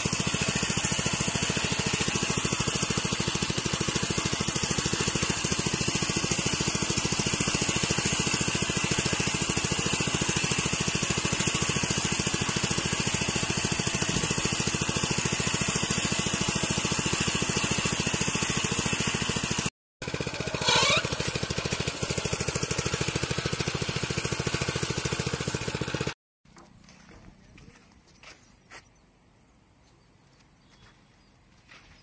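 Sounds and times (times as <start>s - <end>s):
small engine chugging: 0.0s - 27.9s.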